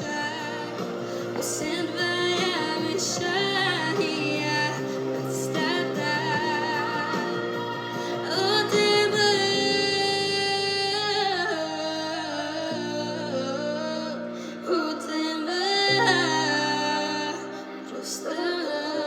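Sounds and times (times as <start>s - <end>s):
pop song backing track: 0.0s - 19.0s
wordless sung vocal with vibrato: 0.0s - 19.0s.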